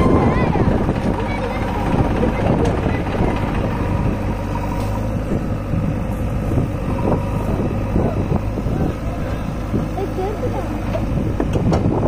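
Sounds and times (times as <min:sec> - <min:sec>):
backhoe loader working: 0:00.0 - 0:12.0
tractor idling: 0:00.0 - 0:12.0.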